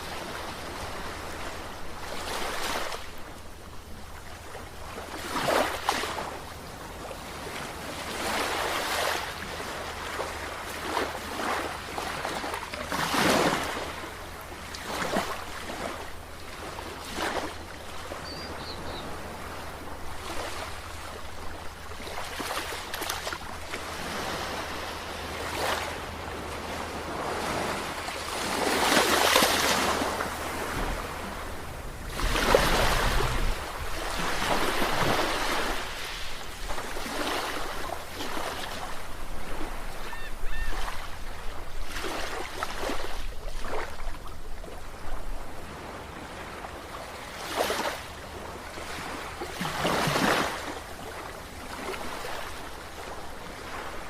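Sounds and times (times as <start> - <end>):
sea waves washing in: 0.0 - 44.2.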